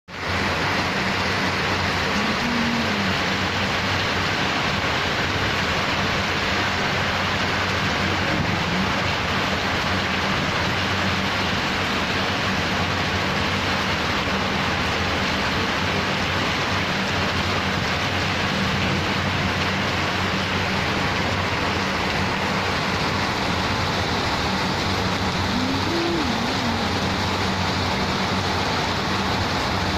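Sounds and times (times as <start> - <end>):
heavy rain pouring: 0.1 - 29.9.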